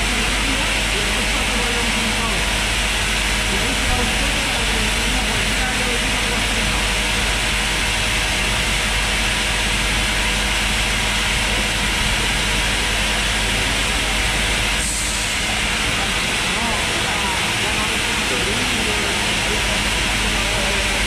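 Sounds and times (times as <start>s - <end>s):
machinery hissing and humming: 0.0s - 21.0s.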